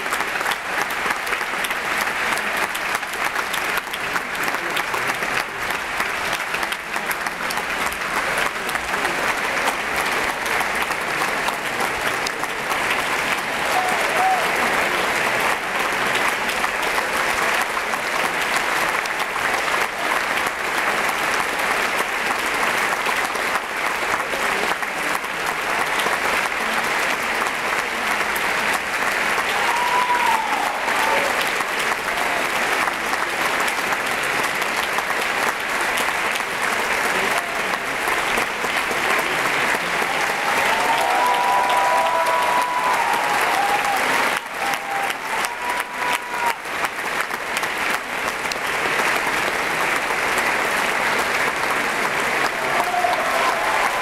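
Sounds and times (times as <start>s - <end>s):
audience applauding: 0.0s - 54.0s.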